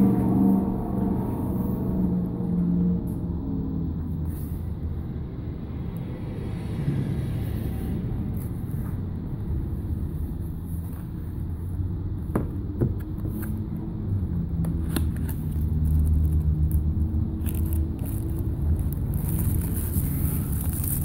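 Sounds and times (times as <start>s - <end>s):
low rumble with hum: 0.0s - 21.0s.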